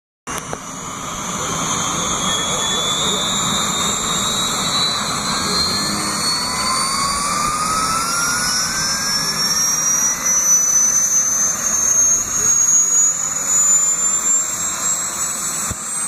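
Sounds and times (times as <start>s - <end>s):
helicopter turbine whine: 0.3s - 16.0s.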